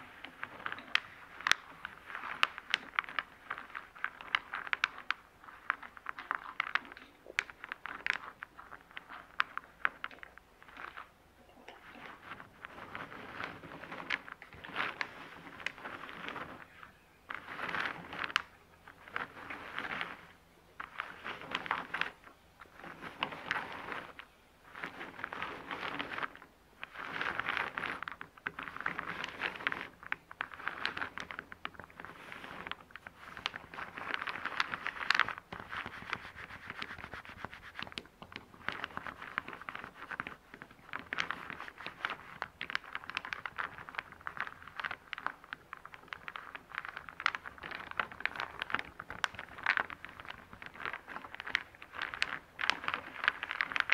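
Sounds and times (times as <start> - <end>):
wooden discs scraping and clicking: 0.0 - 53.9.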